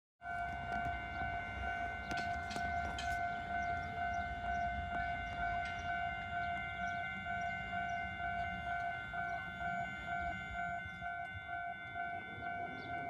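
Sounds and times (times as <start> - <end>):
electronic warning tone: 0.2 - 13.0.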